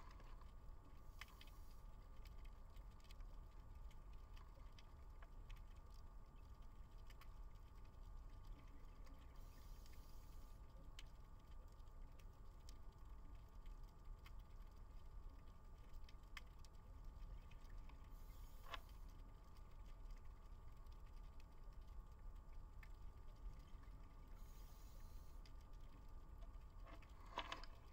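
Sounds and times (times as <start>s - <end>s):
low underwater rumble: 0.0s - 27.9s.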